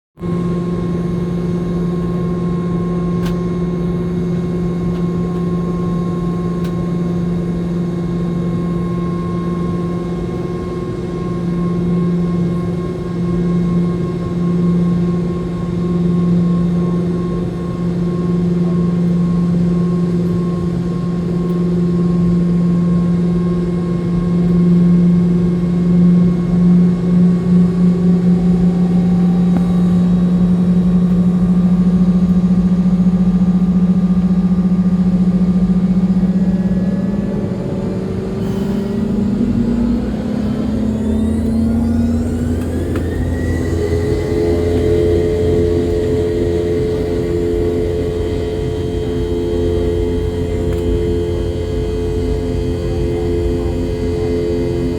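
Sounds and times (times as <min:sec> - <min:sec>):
jet engines humming in cabin: 0:00.2 - 0:54.9.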